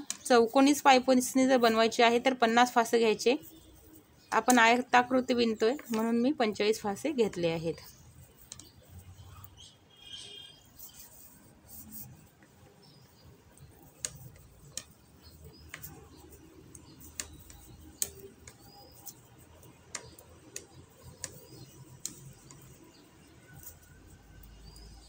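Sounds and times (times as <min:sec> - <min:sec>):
metal knitting needles clicking: 0:00.0 - 0:09.6, 0:10.8 - 0:25.0.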